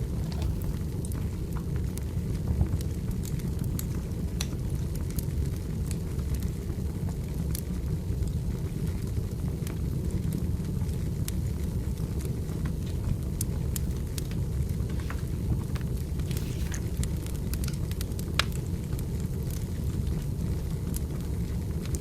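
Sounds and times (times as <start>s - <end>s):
fire crackling and popping: 0.0s - 22.0s
firewood burning: 0.0s - 22.0s.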